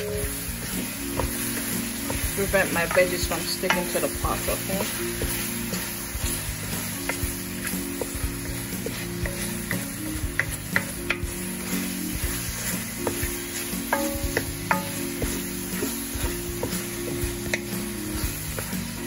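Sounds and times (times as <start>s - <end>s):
shrimp sizzling in oil: 0.0s - 19.0s
wooden spoon scraping pot: 0.0s - 19.0s.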